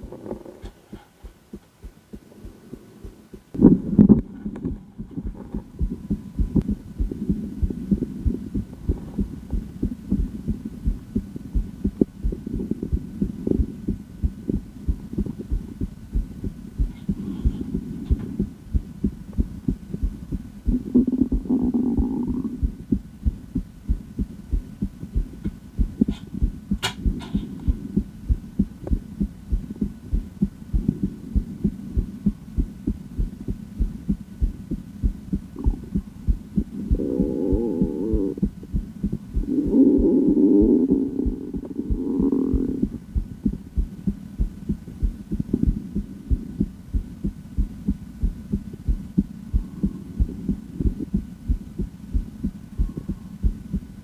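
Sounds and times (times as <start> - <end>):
heartbeat through stethoscope: 0.0 - 54.0.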